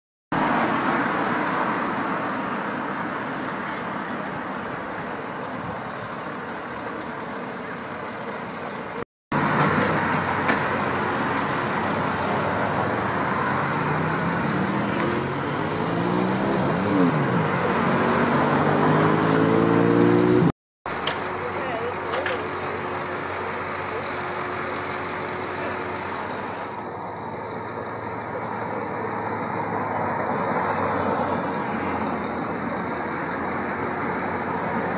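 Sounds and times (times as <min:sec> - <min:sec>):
road traffic passing: 0:00.3 - 0:34.9.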